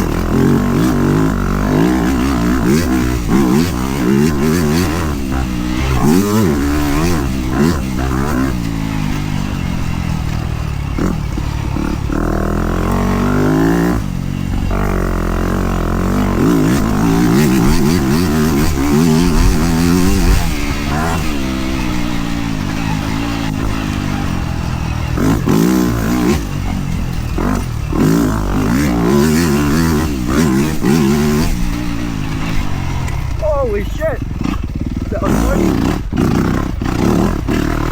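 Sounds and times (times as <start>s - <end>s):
dirt bike engine revving: 0.0s - 37.9s
wind: 0.0s - 37.9s.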